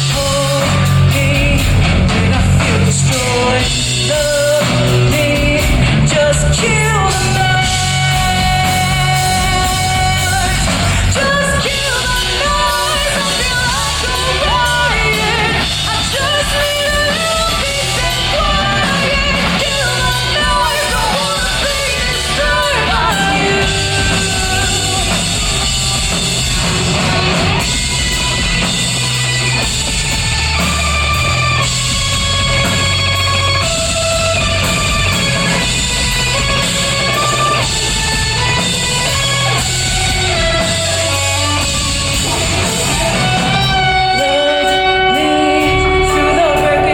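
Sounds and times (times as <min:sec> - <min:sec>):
person singing: 0:00.0 - 0:27.7, 0:31.5 - 0:46.9
drum kit: 0:00.0 - 0:46.9
electric guitar: 0:00.0 - 0:46.9.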